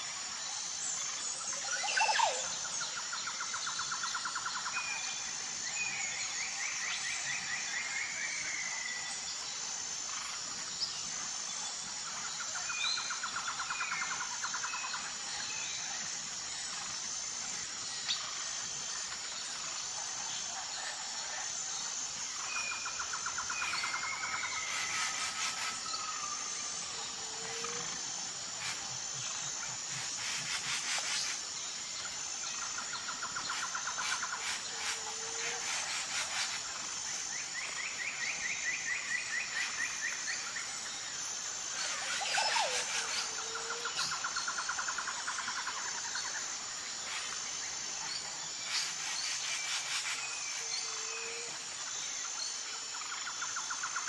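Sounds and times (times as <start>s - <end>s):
insect trill: 0.0s - 54.0s
pulsing insect drone: 0.0s - 54.0s.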